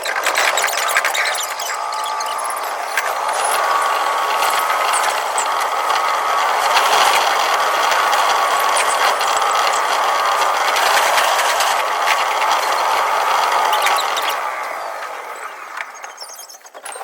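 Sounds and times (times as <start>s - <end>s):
electric train running: 0.0s - 17.0s
sharp clicks: 0.0s - 17.0s
thin steady whine: 0.4s - 16.7s.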